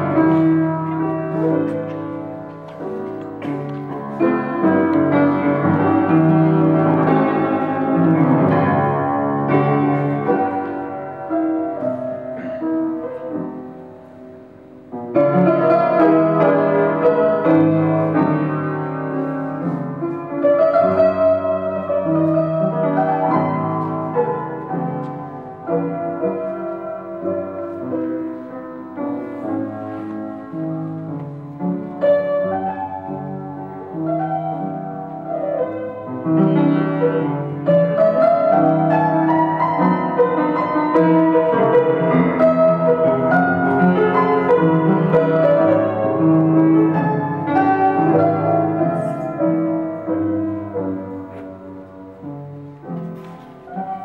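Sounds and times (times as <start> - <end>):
upright piano chords: 0.0 - 54.0.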